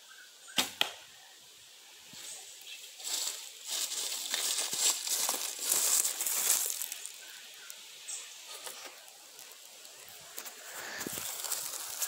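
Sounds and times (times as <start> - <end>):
footsteps crunching through dry leaves: 2.1 - 12.0.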